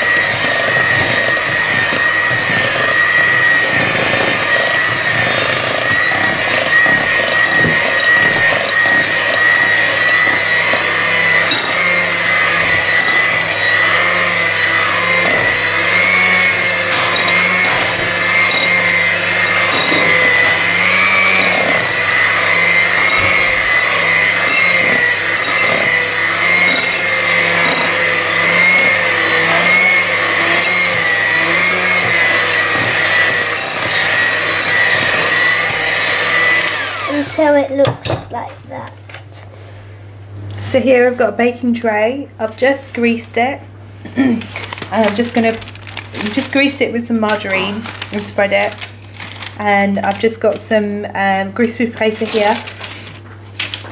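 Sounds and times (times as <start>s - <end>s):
beaters whisking batter: 0.0s - 38.8s, 44.5s - 53.9s
electric hand mixer whining: 0.0s - 38.9s, 44.5s - 53.9s.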